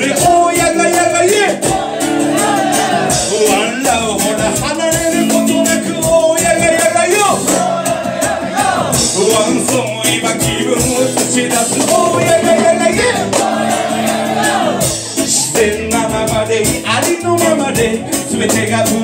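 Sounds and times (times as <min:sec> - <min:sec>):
man singing into microphone: 0:00.0 - 0:13.5, 0:14.4 - 0:19.0
steady beat: 0:00.0 - 0:19.0
strummed acoustic guitar: 0:00.0 - 0:19.0.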